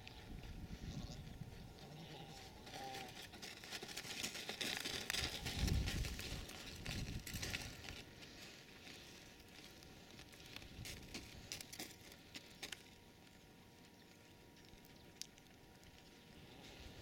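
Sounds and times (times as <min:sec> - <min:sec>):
hooves on stony ground: 0:00.0 - 0:17.0.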